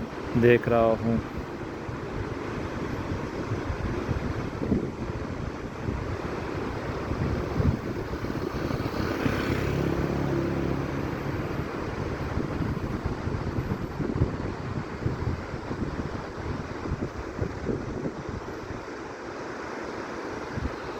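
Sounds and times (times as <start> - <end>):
wind buffeting microphone: 0.0 - 19.2, 20.3 - 20.9.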